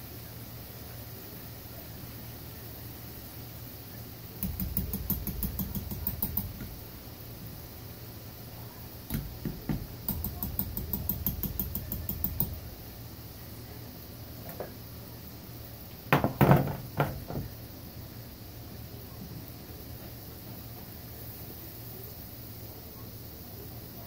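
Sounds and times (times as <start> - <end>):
food frying hiss: 0.0 - 24.0.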